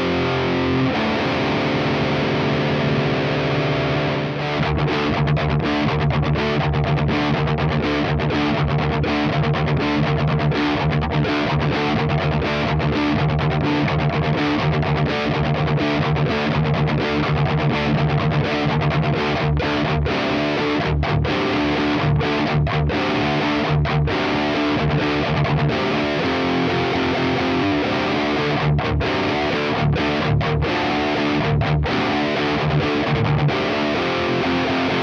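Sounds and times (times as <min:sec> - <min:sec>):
distorted electric guitar riffing: 0:00.0 - 0:35.0.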